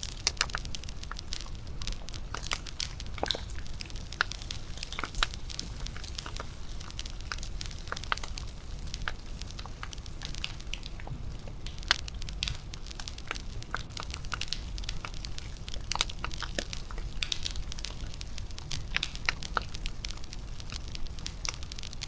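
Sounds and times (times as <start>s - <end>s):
steady low rumble: 0.0s - 22.0s
wood fire crackling and popping: 0.0s - 22.0s.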